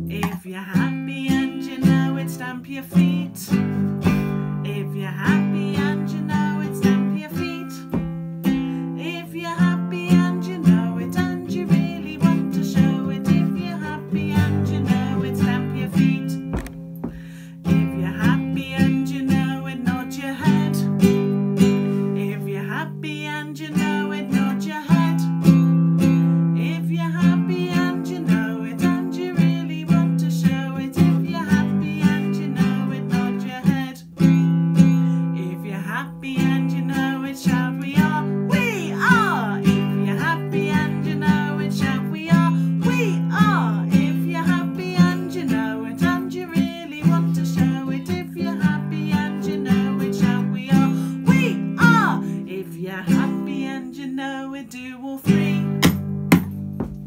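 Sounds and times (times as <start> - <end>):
woman singing: 0.0 - 16.7, 17.6 - 56.0
classical guitar strumming: 0.0 - 54.2, 55.2 - 57.0.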